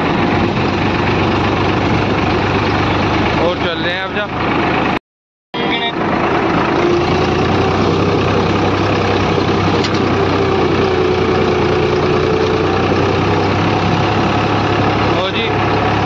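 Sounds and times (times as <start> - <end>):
tractor diesel engine running: 0.0 - 5.0, 5.6 - 16.0.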